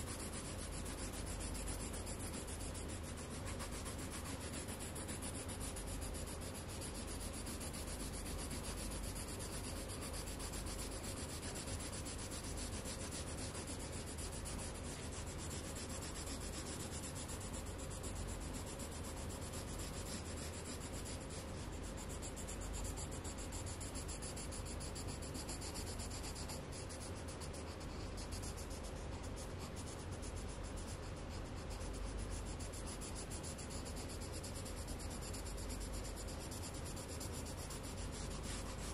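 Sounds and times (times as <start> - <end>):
pencil scratching on paper: 0.0 - 38.9.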